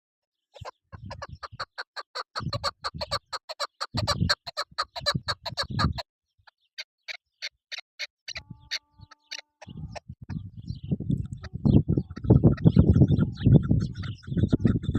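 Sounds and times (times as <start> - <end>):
partridge calling: 0.5 - 14.9.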